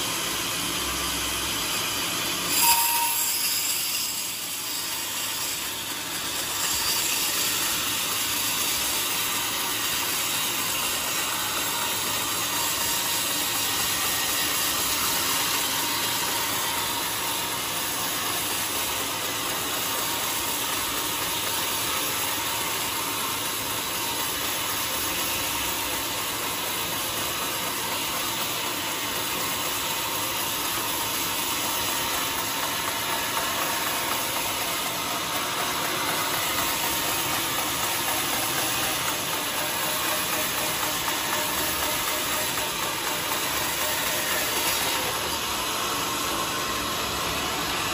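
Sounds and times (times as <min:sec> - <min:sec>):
band saw cutting wood: 0:00.0 - 0:47.9.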